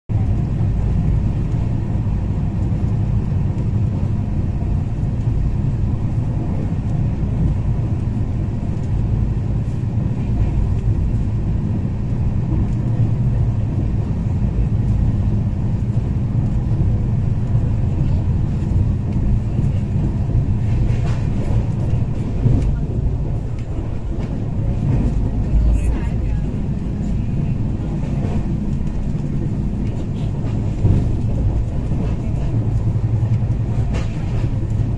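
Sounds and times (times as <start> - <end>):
train rumbling on track: 0.1 - 34.9.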